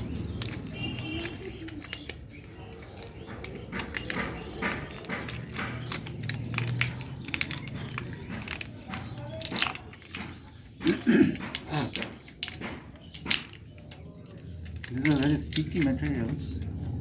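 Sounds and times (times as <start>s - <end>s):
small tool clicks and knocks: 0.0s - 16.8s.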